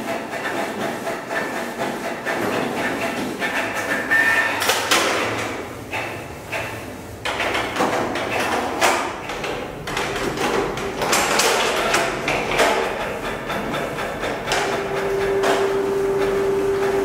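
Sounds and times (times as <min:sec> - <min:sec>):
printer carriage whirring: 0:00.0 - 0:17.0.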